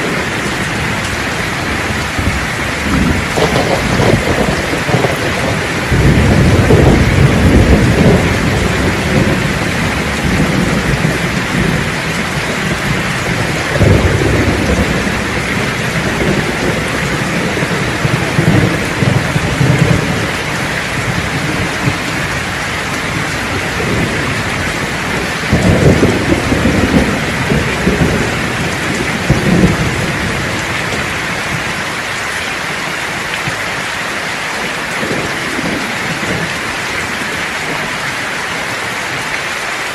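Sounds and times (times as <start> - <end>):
thunder rolling: 0.0 - 31.8, 34.6 - 38.0
heavy rain: 0.0 - 39.9.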